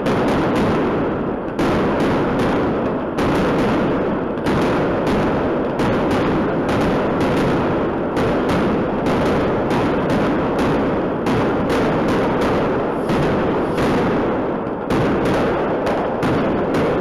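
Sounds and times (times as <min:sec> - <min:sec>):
fireworks bursting: 0:00.0 - 0:17.0
rumble after fireworks: 0:00.0 - 0:17.0.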